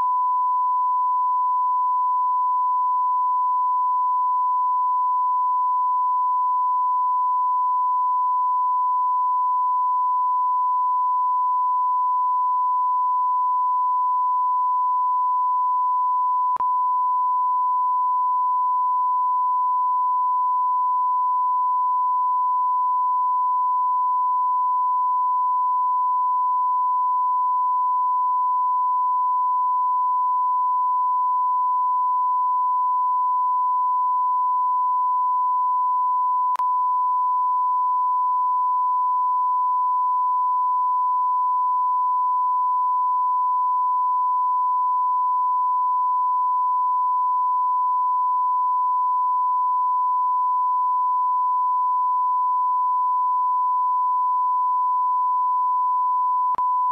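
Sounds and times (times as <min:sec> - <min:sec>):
sine-wave test tone: 0:00.0 - 0:56.9.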